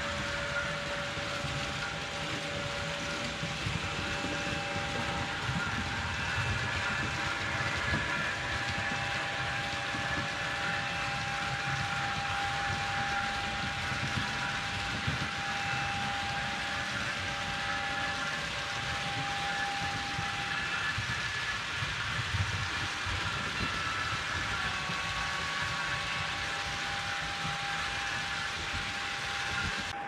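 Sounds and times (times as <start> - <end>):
electric whine: 0.0 - 30.0
model train wheels rumbling: 0.0 - 30.0.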